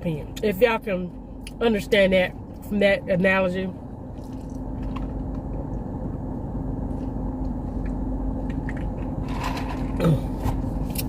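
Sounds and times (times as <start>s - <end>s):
car engine rumble inside car: 0.0s - 11.0s
constant hum: 0.0s - 11.0s.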